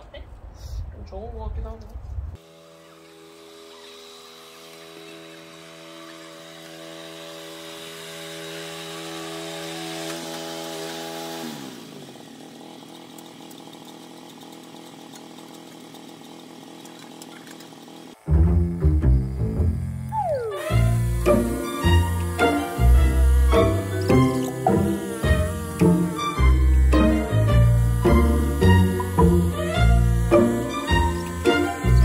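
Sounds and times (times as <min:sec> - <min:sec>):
cultivator petrol engine running: 0:02.4 - 0:32.0.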